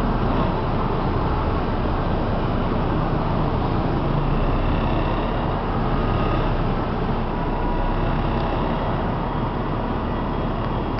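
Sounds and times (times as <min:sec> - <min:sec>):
bus diesel engine rumble: 0:00.0 - 0:10.9.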